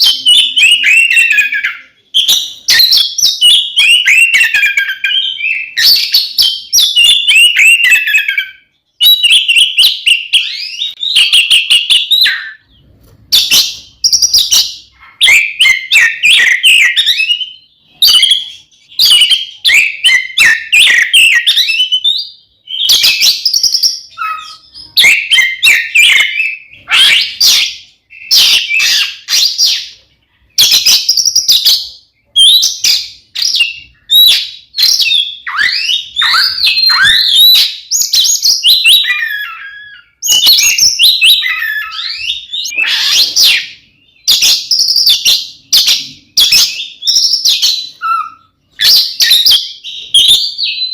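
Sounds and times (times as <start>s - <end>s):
magpie-robin singing: 0.0s - 50.9s.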